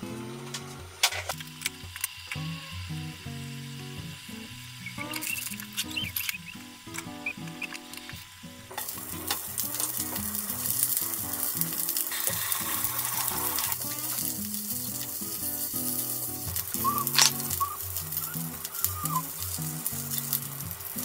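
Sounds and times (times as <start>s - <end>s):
sausages sizzling in a frying pan: 0.0s - 21.0s.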